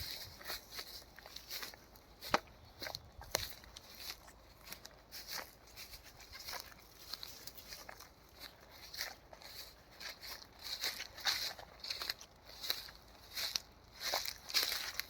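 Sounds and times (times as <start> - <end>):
footsteps crunching on forest floor: 0.0 - 15.0.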